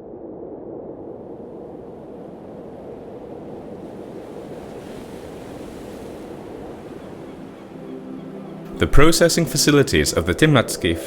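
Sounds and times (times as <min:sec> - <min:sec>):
wind: 0:00.0 - 0:09.2
sea waves and surf: 0:01.3 - 0:11.0.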